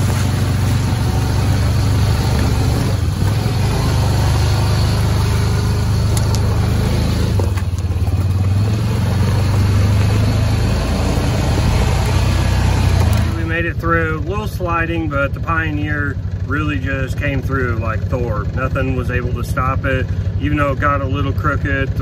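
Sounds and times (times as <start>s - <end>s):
single-cylinder engine running: 0.0s - 22.0s.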